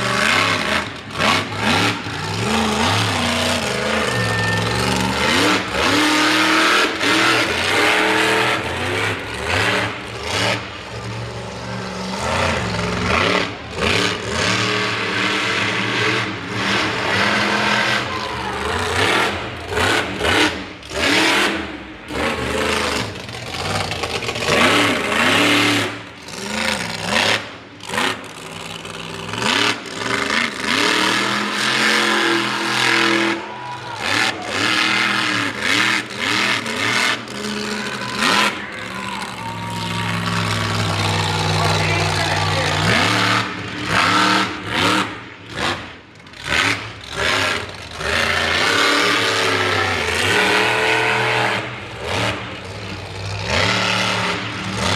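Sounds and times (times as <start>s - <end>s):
truck engine revving hard: 0.0s - 54.9s.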